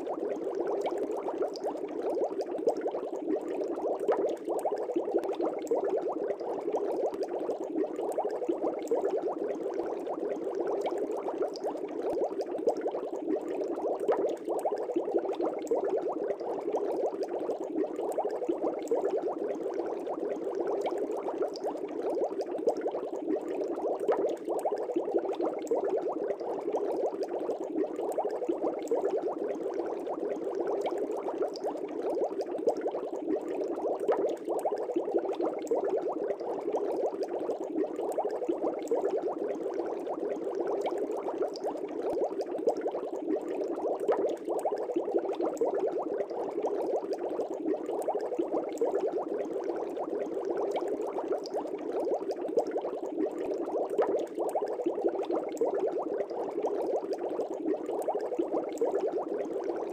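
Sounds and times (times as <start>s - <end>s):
aquarium air bubbles popping: 0.0s - 59.9s.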